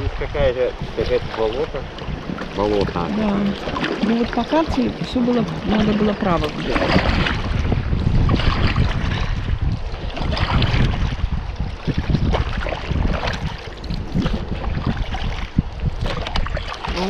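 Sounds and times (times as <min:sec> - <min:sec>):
paddle splashing water: 0:00.0 - 0:17.0
wind rumbling on microphone: 0:00.0 - 0:17.0.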